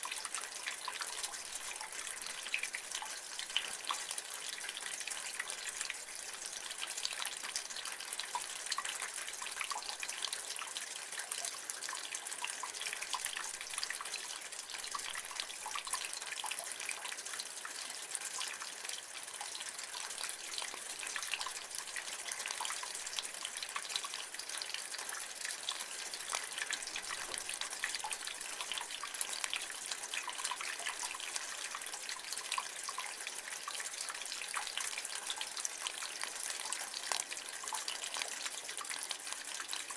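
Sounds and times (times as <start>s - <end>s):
water dripping and spattering: 0.0s - 39.9s
water running from rain gutter: 0.0s - 39.9s.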